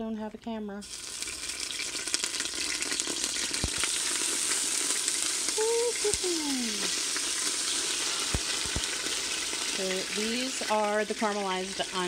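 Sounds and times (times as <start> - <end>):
onions sizzling in pot: 0.8 - 12.0.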